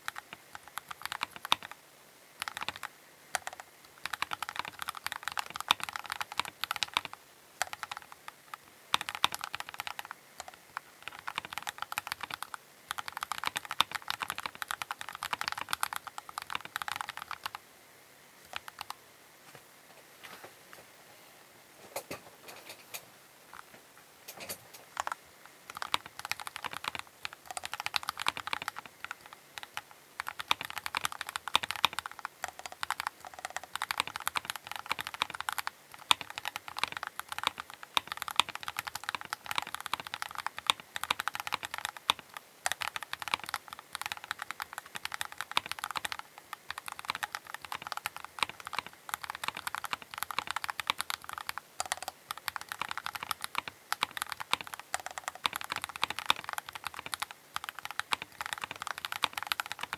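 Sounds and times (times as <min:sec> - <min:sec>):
mechanical keyboard typing: 0:00.0 - 0:01.8, 0:02.4 - 0:17.6, 0:18.5 - 0:19.0, 0:24.3 - 0:59.9.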